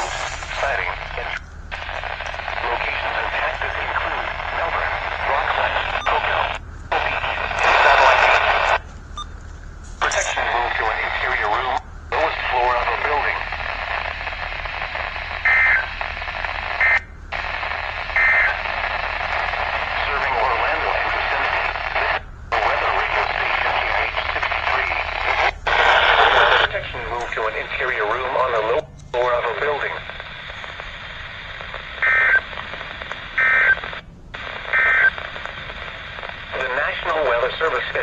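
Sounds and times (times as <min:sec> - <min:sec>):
radio reception hiss: 0:00.0 - 0:08.9, 0:09.6 - 0:38.0.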